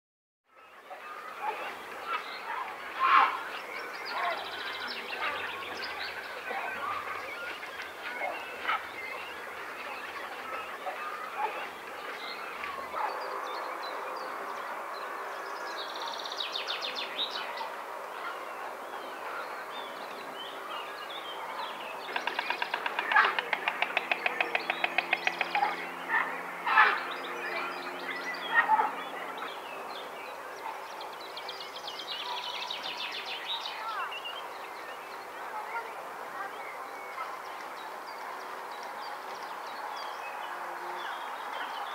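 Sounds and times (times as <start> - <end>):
songbirds singing: 0.5 - 41.9.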